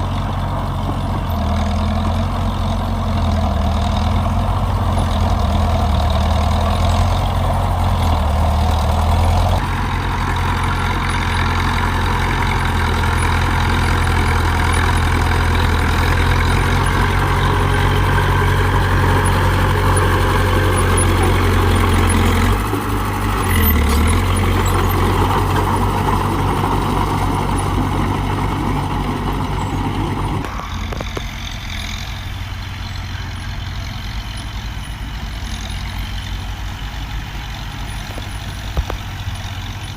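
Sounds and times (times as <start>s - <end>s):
heavy diesel engines droning: 0.0s - 39.9s.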